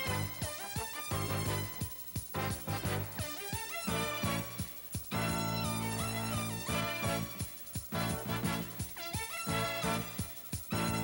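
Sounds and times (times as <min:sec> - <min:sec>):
instrumental music with sliding notes: 0:00.0 - 0:11.0.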